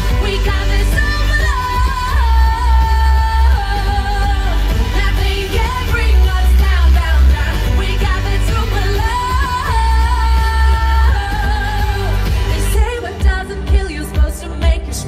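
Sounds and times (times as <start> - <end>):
pop backing track with bass: 0.0 - 15.0
woman singing into microphone: 0.0 - 15.0.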